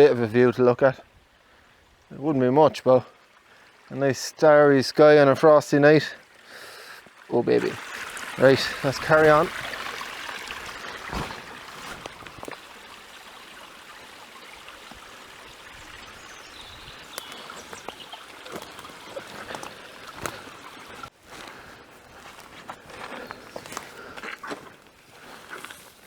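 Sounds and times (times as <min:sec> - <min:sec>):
stream running over stones: 0:00.0 - 0:26.0.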